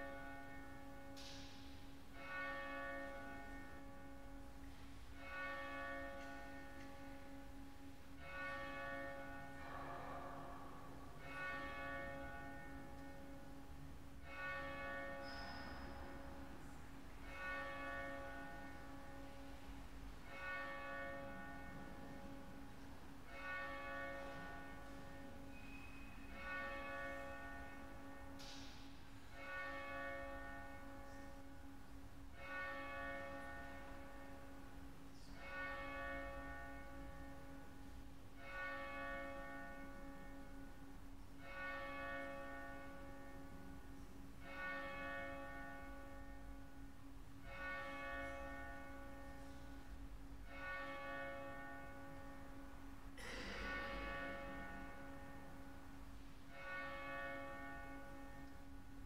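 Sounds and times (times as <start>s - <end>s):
church bell tolling: 0.0s - 59.0s.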